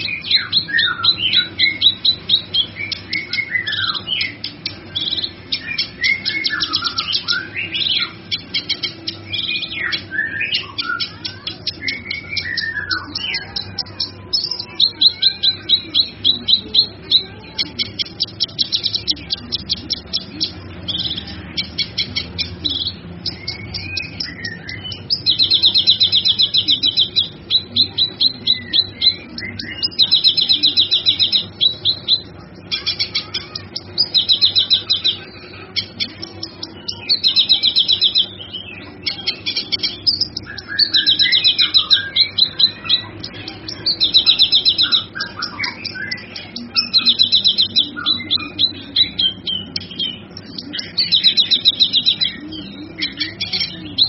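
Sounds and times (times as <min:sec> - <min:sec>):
songbird trilling and chirping: 0:00.0 - 0:54.0.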